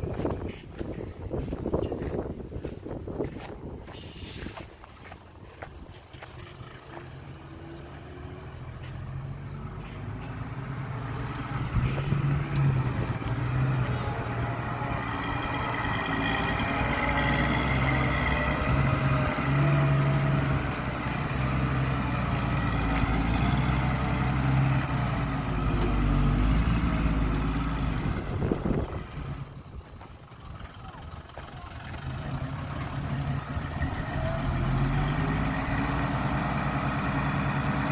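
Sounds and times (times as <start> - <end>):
diesel machinery engine drone: 0.0 - 5.2, 6.0 - 37.9.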